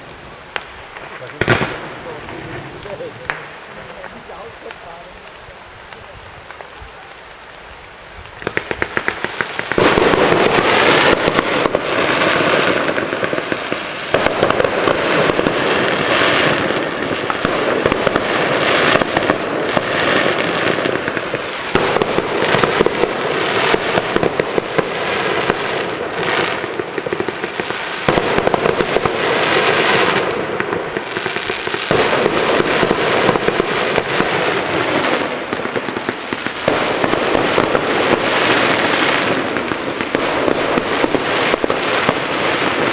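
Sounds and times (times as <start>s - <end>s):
crackling and bursting fireworks: 0.0s - 42.9s
fireworks popping: 0.0s - 42.9s.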